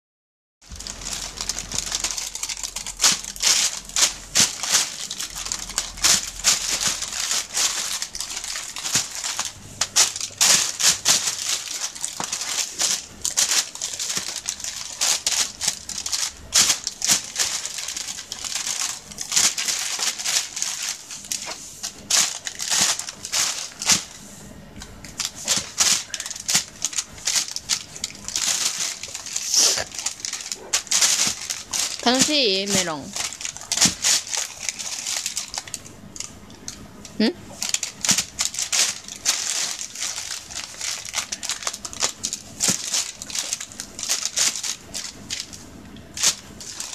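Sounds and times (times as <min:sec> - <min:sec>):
plastic bag crinkling: 0:00.6 - 0:46.9.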